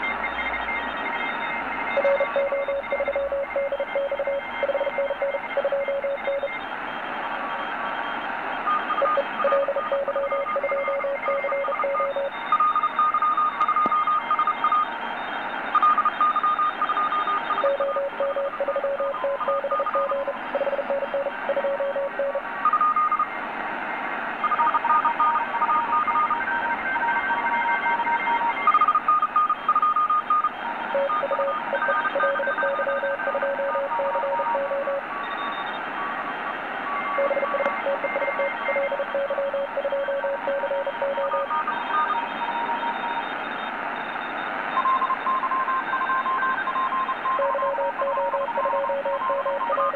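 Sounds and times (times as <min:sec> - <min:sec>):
radio band noise hiss: 0:00.0 - 0:11.2, 0:14.9 - 0:29.6, 0:30.4 - 0:49.9
morse code beeps: 0:00.0 - 0:23.3, 0:24.4 - 0:49.9.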